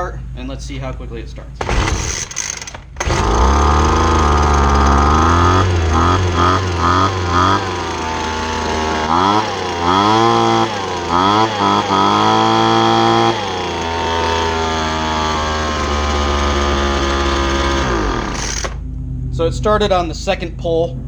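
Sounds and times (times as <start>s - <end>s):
leaf blower engine revving: 1.6s - 18.8s.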